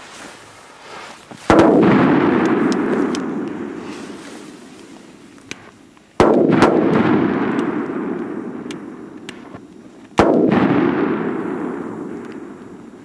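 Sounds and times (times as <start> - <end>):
firecracker bangs with echo: 1.4 - 13.0.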